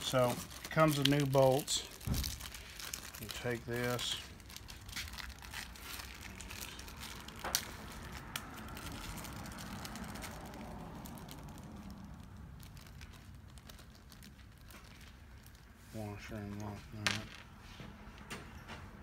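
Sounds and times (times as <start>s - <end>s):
plastic bag rustling: 0.0s - 17.8s.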